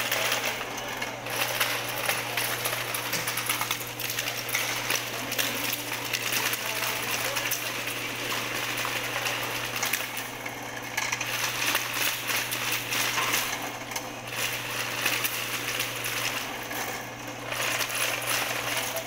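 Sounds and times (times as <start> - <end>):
drain cleaning machine motor humming: 0.0 - 19.0.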